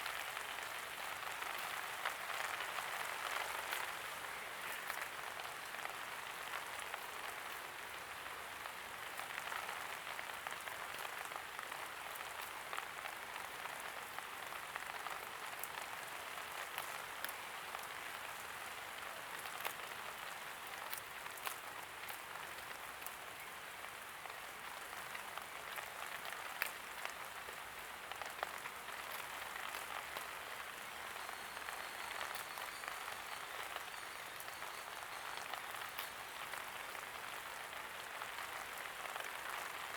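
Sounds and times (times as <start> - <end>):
light rain falling: 0.0 - 39.9
raindrops ticking on hard surfaces: 0.0 - 39.9.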